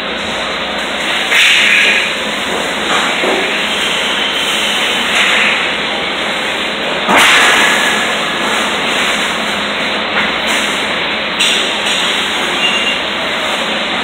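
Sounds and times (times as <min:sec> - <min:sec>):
loud machine noise: 0:00.0 - 0:14.0.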